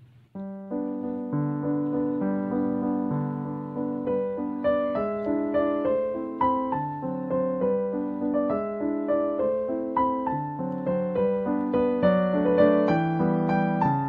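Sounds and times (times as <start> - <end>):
solo piano waltz: 0.0 - 14.0.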